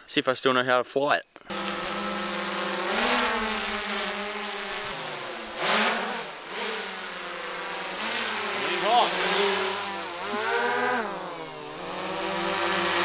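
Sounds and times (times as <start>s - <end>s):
drone motors buzzing: 1.5s - 13.0s.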